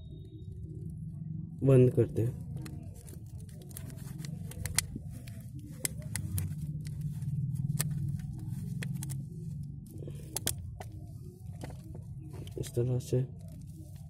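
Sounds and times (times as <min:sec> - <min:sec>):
steady low hum: 0:00.0 - 0:14.0
tape and glass clicking and crackling: 0:02.4 - 0:14.0.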